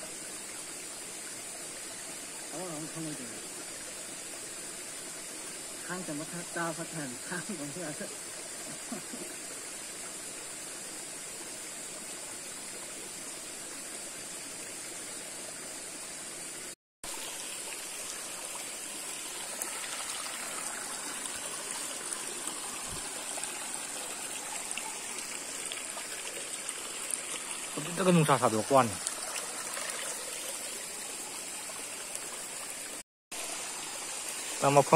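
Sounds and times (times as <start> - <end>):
stream water trickling: 0.0 - 34.9.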